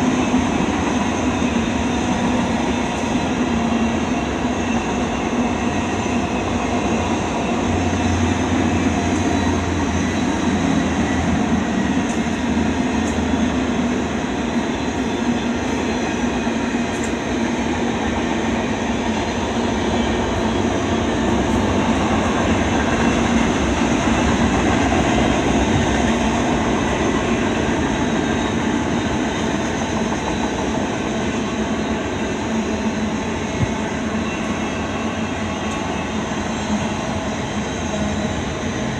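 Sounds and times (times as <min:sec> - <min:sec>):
freight train wheels rumbling on rail: 0:00.0 - 0:38.9.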